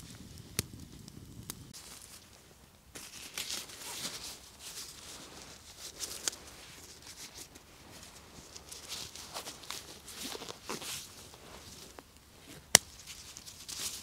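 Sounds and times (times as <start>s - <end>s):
clothing and plastic rustling: 1.8s - 14.0s.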